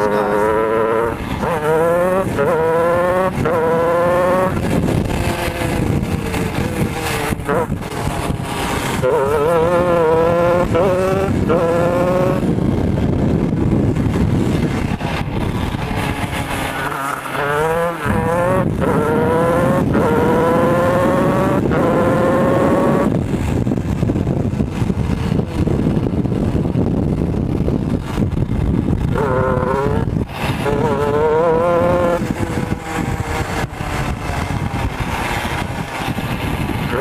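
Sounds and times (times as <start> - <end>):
kart engine at full throttle: 0.0 - 37.0.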